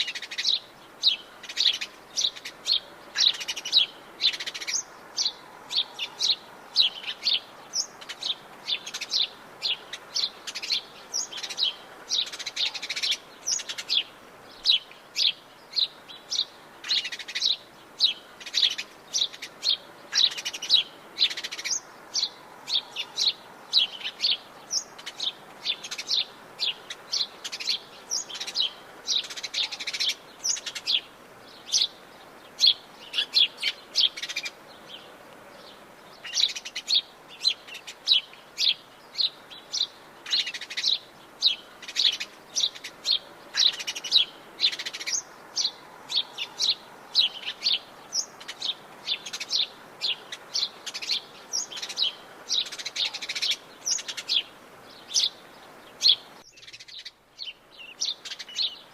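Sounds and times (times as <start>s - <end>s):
birds chirping and calling: 0.0s - 58.9s
faint background hiss: 0.0s - 58.9s.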